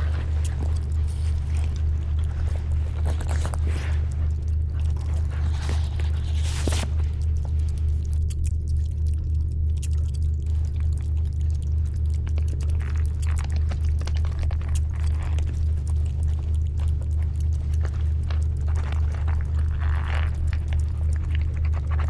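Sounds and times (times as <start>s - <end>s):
deep pulsing hum: 0.0s - 22.0s
faint clicks and crackles: 0.0s - 22.0s.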